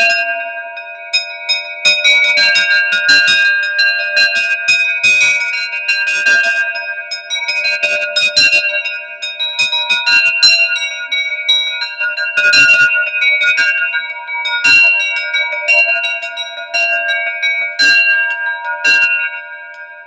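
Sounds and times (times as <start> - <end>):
metal bells ringing: 0.0 - 20.0.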